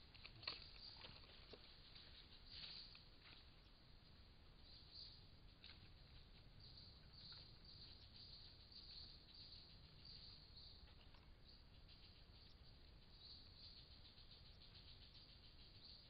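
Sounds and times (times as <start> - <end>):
insects chirping: 0.0 - 16.0
low background hiss: 0.0 - 16.0.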